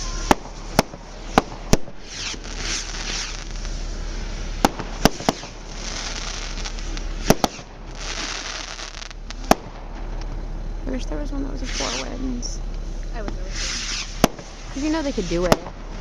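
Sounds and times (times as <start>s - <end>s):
fireworks bursting with sharp bangs: 0.0s - 10.6s, 11.6s - 16.0s
steady hiss: 0.0s - 10.9s, 11.5s - 16.0s.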